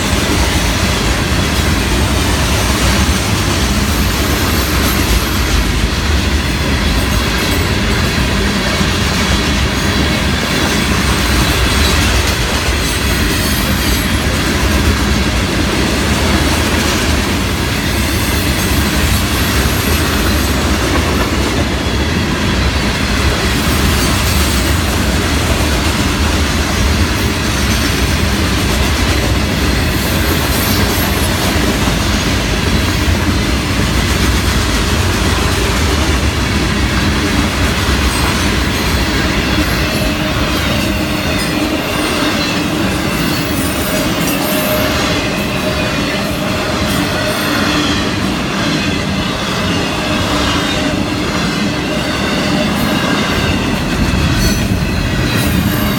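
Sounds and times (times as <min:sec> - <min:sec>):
freight train wheels rumbling on rails: 0:00.0 - 0:55.9.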